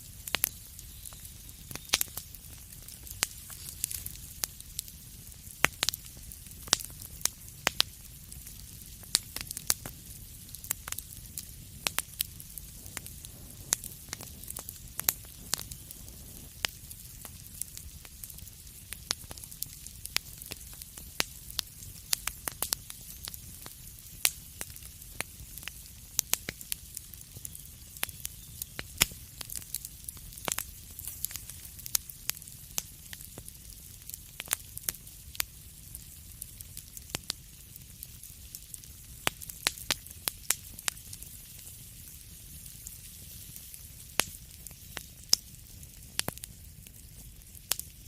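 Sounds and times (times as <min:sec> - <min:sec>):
fireplace fire crackling: 0:00.0 - 0:48.0.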